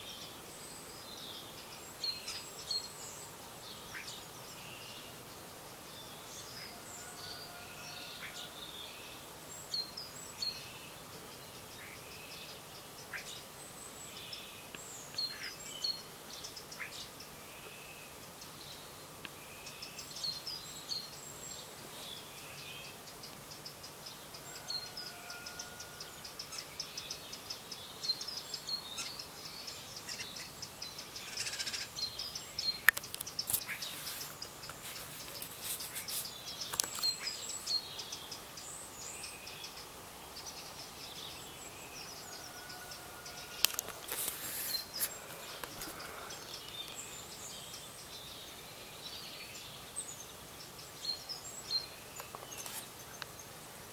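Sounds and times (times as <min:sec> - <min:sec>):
songbirds singing and chirping: 0:00.0 - 0:53.9.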